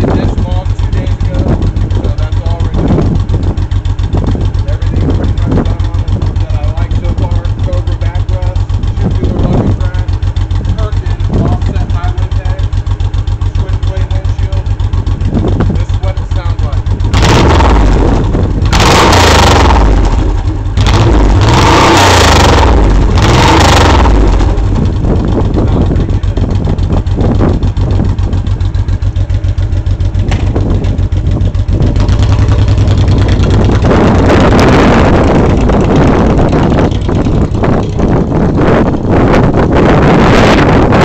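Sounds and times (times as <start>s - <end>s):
motorcycle engine revving and idling: 0.0s - 41.0s.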